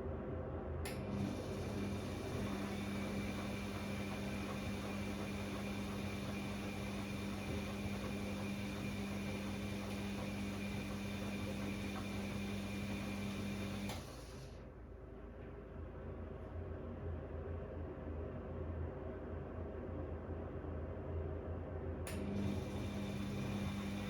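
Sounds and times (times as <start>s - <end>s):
washing machine motor humming and whining: 0.2s - 24.0s.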